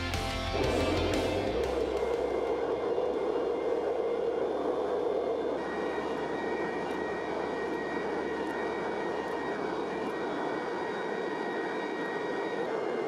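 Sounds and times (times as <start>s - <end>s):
hydraulic press drone: 0.0s - 13.0s
thin high whine: 0.0s - 13.0s.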